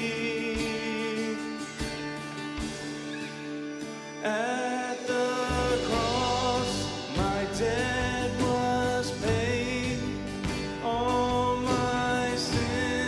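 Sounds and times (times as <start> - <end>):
man singing worship song: 0.0 - 1.8, 4.2 - 13.0
acoustic guitar: 0.0 - 13.0.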